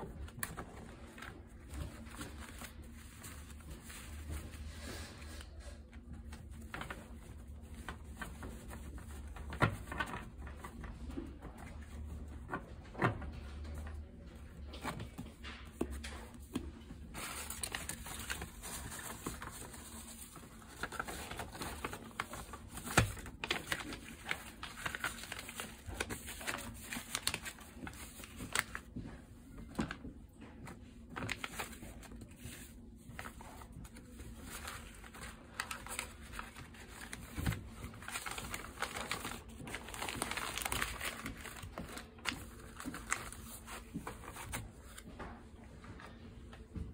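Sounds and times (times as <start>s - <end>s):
paper rustling and crinkling: 0.0s - 46.9s
cards tapped and shuffled: 5.9s - 46.9s.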